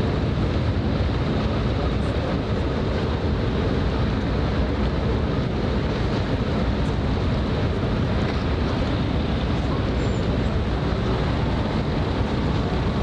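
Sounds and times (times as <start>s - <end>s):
waterfront ambience: 0.0s - 13.0s
wind buffeting microphone: 0.0s - 13.0s.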